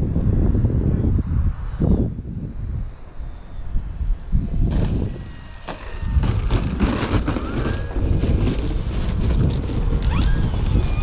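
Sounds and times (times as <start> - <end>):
wind gusting over microphone: 0.0 - 11.0
electric motor whine: 0.1 - 11.0.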